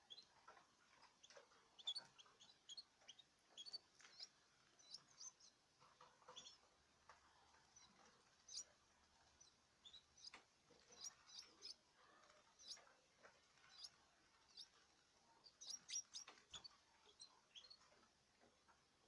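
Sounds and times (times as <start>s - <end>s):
young canaries chirping: 0.0s - 18.0s.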